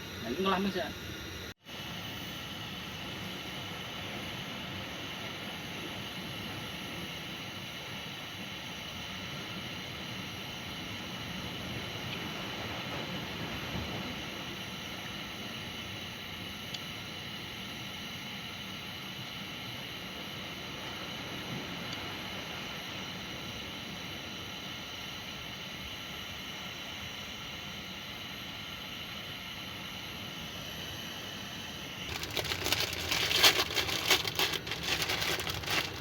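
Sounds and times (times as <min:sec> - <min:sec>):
wind: 0:00.0 - 0:36.0.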